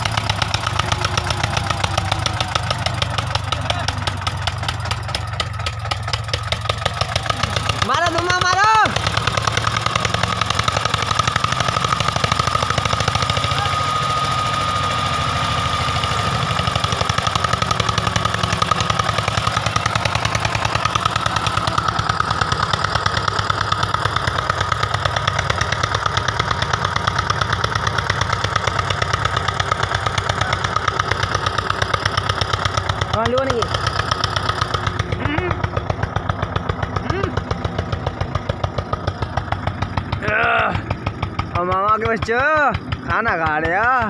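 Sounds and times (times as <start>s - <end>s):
tractor diesel engine chugging: 0.0s - 44.0s.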